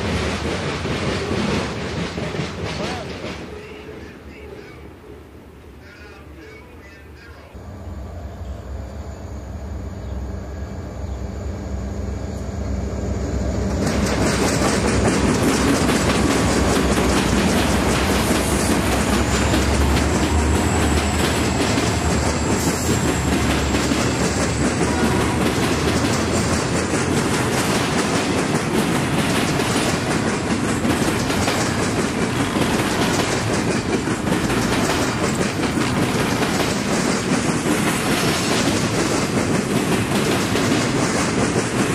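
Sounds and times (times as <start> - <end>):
diesel locomotive engine rumble: 0.0 - 41.9
train wheels on track: 0.0 - 41.9.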